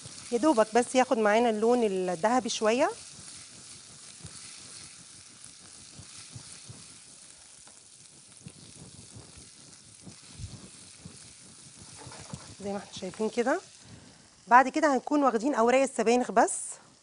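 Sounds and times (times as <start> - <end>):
garlic sizzling in a pan: 0.0 - 17.0.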